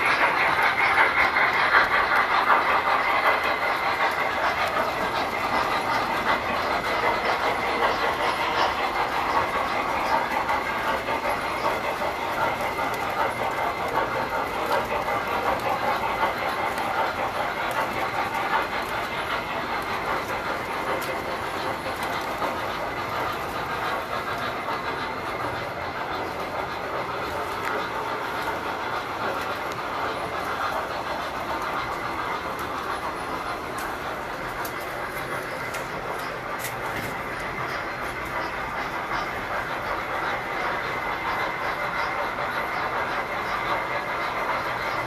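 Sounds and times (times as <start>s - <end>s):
model train wheels rattling: 0.0s - 45.0s.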